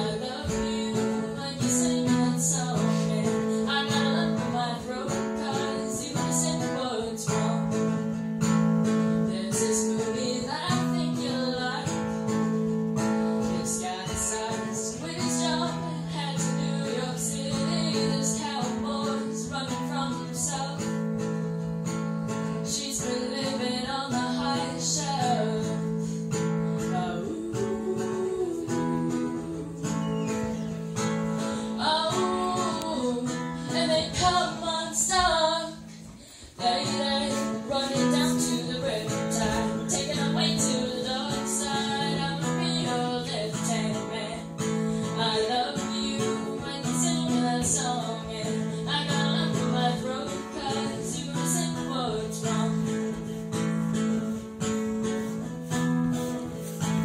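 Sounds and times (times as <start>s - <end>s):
acoustic string instrument strumming: 0.0s - 57.0s
woman singing: 0.0s - 57.0s.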